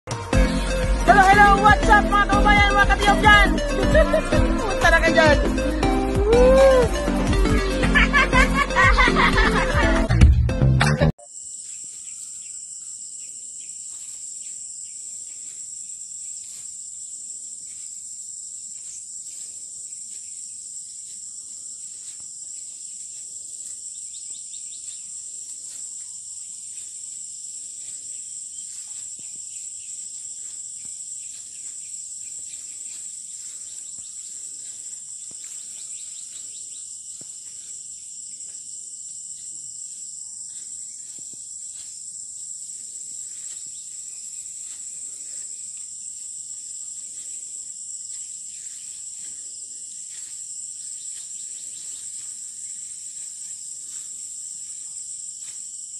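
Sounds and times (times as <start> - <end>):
insect chorus: 8.0 - 9.8, 11.2 - 55.9.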